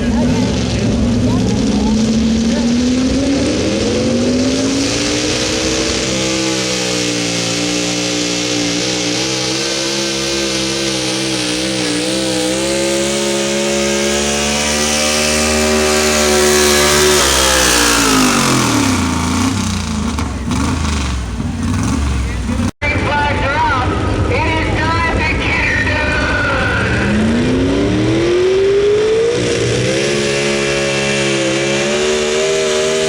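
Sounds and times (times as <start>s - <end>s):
truck engine at full throttle: 0.0s - 33.0s.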